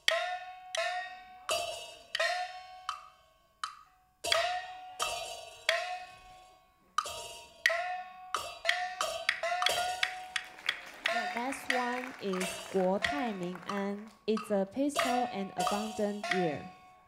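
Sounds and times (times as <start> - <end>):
ringing percussion strikes: 0.0 - 3.4, 4.3 - 17.0.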